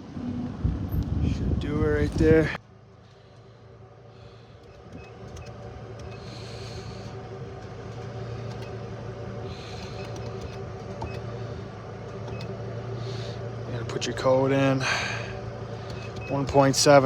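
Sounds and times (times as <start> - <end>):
truck engine idling: 1.9 - 17.0.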